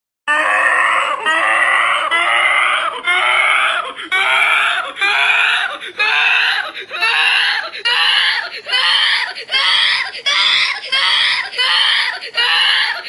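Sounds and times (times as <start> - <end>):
girl screaming: 0.3 - 13.0.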